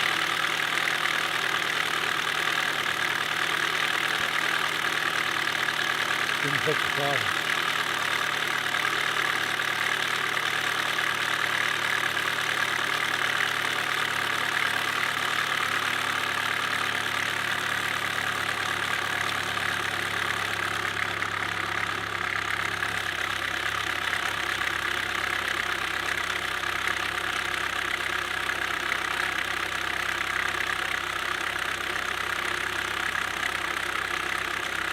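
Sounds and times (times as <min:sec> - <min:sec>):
car engine idling: 0:00.0 - 0:34.9
engine knocking: 0:00.0 - 0:34.9.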